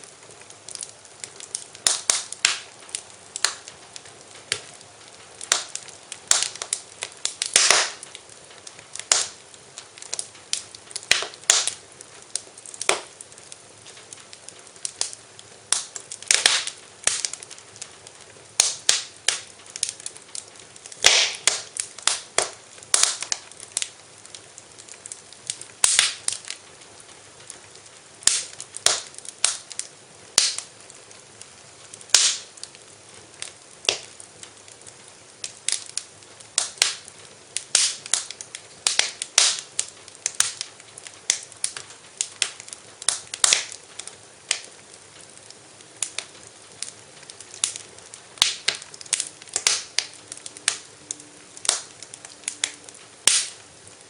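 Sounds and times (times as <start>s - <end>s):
faint steady hiss: 0.0s - 54.0s
fireplace fire crackling: 0.0s - 54.0s.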